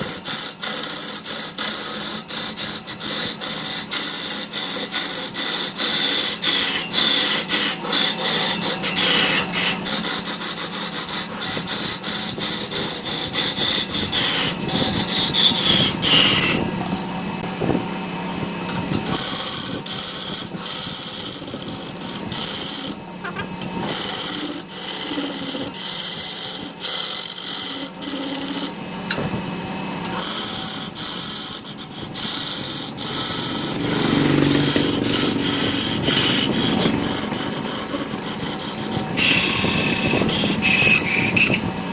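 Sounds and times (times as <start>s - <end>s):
tool scraping spinning wood: 0.0s - 41.9s
lathe motor hum: 0.2s - 41.9s.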